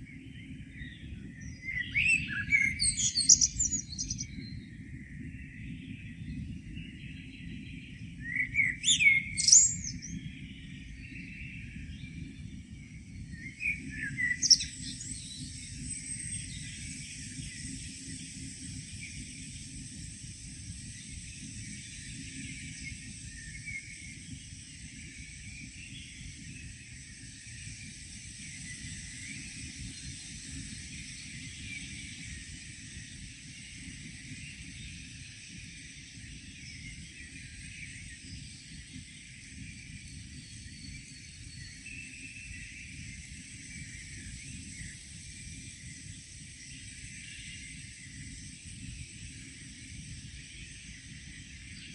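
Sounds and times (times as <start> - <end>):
faint bird chirps: 0.0 - 51.9
steady hiss: 2.8 - 51.9.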